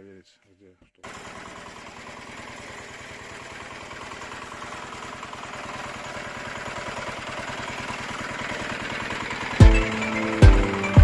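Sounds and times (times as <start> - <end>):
diesel engine chugging: 1.0 - 11.0.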